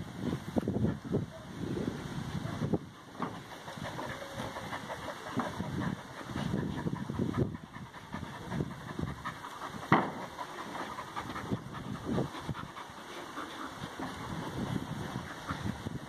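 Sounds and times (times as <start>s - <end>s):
dogs making low sounds: 2.3s - 16.0s.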